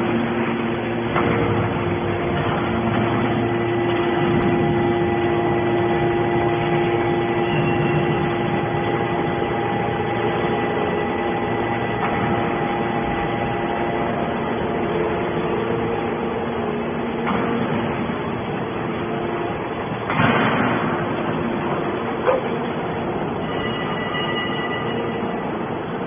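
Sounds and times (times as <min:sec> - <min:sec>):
hydraulic baler humming and whining: 0:00.0 - 0:26.0.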